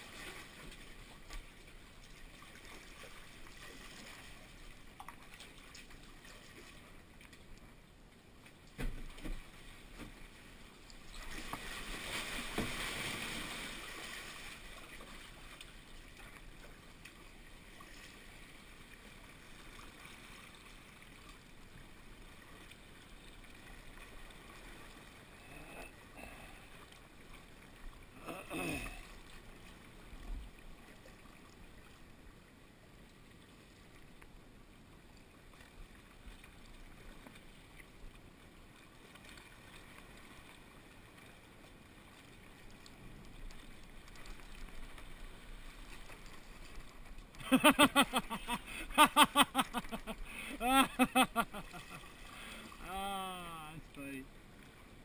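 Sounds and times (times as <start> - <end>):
rush of water: 0.0 - 55.0
water sloshing around a kayak: 0.0 - 55.0.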